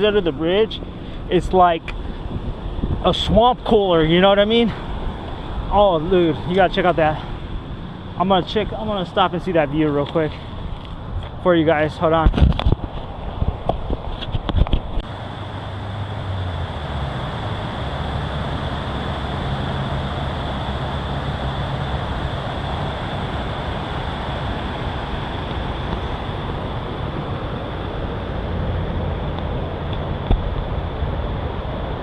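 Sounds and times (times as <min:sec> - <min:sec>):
creek water rushing: 0:00.0 - 0:12.1, 0:12.8 - 0:32.0.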